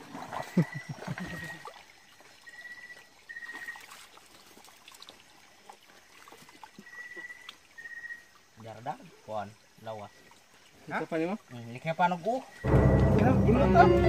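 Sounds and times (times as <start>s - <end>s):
stream water trickling: 0.0s - 14.0s.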